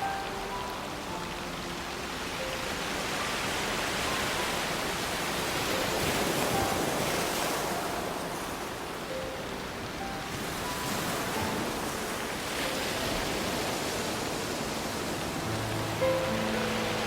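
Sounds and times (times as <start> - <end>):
soft background music: 0.0 - 17.0
surf washing onto pebble beach: 0.3 - 17.0.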